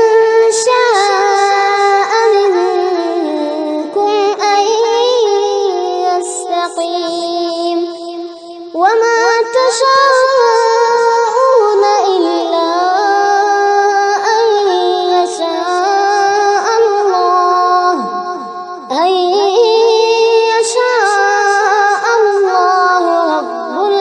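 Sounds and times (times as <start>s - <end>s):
wordless vocal music: 0.0s - 24.0s.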